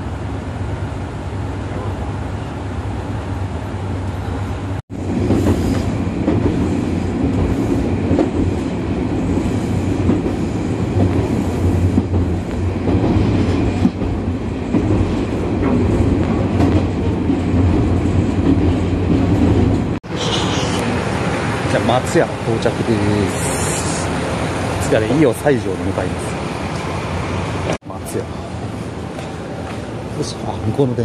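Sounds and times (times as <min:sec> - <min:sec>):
railcar engine drone: 0:00.0 - 0:31.0.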